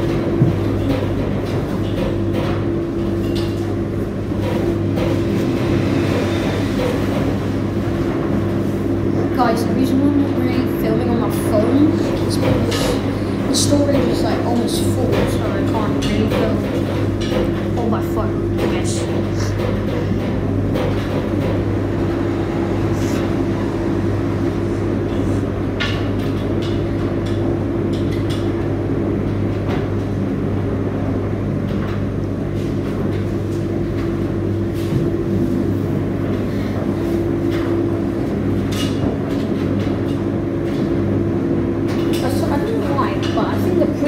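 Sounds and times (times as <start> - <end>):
machine hum: 0.0 - 44.0
washing machine drum turning: 0.0 - 44.0.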